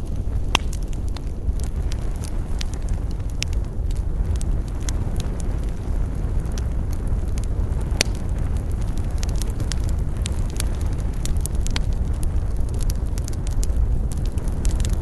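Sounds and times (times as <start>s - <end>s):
fire pops and snaps: 0.0s - 15.0s
wood fire crackling: 0.0s - 15.0s.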